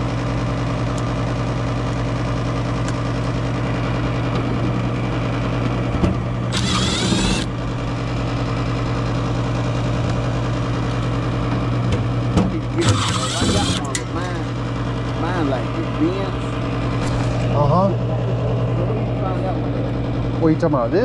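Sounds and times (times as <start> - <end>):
furnace motor hum: 0.0 - 21.0.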